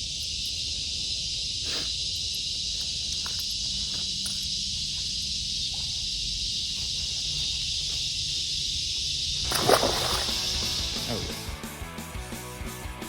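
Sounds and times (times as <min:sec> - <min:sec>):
insects droning chorus: 0:00.0 - 0:13.0.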